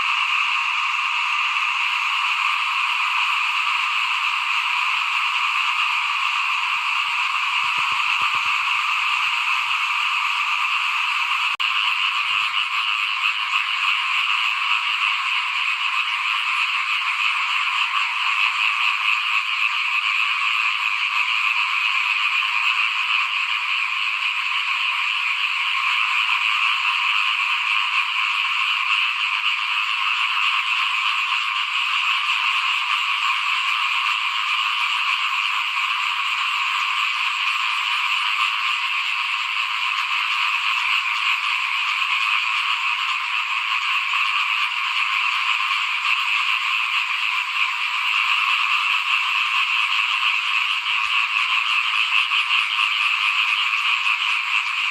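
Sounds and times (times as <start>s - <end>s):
frogs chorus calling: 0.0s - 54.9s.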